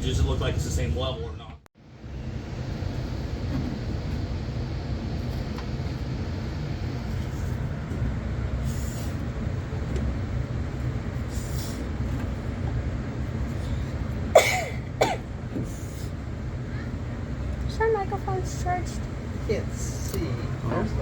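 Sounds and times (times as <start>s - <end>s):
fan running: 0.0s - 21.0s.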